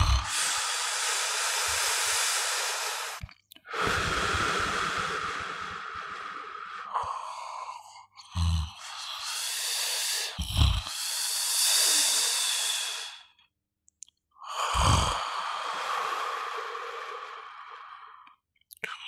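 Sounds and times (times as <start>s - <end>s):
breathy exhale: 0.0s - 8.1s, 8.7s - 13.3s, 14.6s - 18.3s
person snoring: 0.0s - 13.2s, 14.4s - 18.2s.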